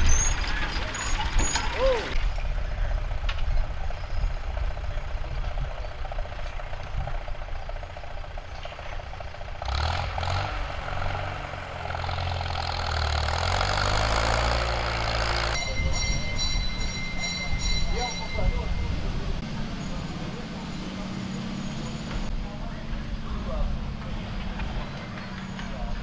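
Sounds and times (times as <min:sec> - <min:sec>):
loud engine passing close: 0:00.0 - 0:26.0
tractor engines running: 0:00.0 - 0:26.0.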